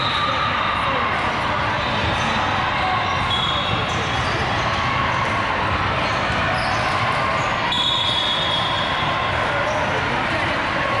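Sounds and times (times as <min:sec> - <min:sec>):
crowd noise: 0:00.0 - 0:11.0.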